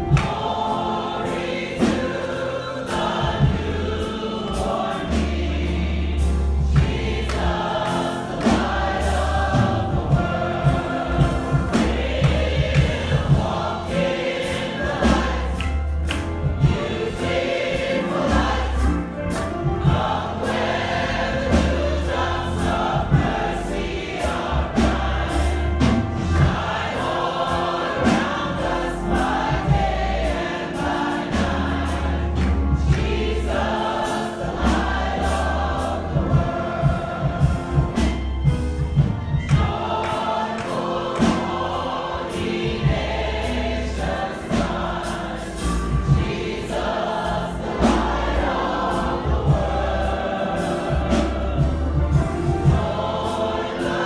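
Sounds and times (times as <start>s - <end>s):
band with steady bass line: 0.0s - 54.0s
congregation singing gospel song: 0.0s - 54.0s
sharp drum strikes: 0.0s - 54.0s.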